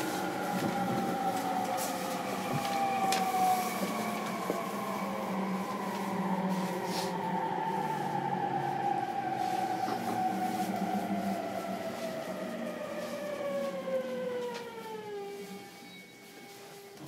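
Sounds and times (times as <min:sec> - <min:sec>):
wheel and rail rumble: 0:00.0 - 0:15.9.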